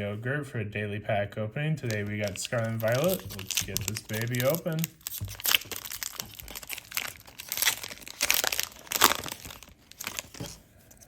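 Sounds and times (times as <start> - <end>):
foil wrapper crinkling and tearing: 1.8 - 11.0.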